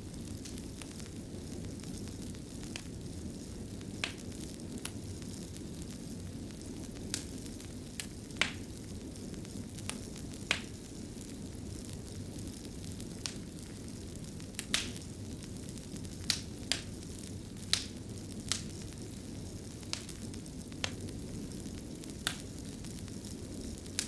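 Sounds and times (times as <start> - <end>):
sharp fire pops: 0.0 - 24.0
wood fire crackling: 0.0 - 24.0.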